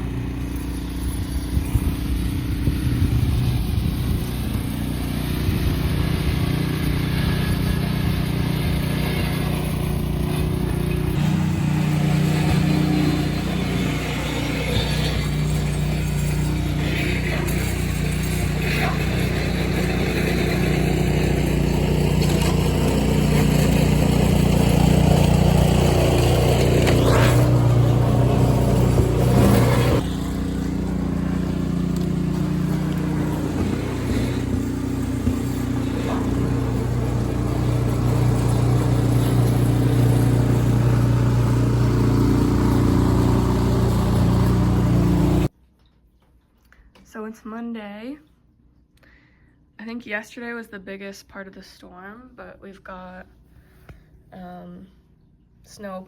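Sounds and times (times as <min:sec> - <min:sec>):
engine running steadily: 0:00.0 - 0:45.5.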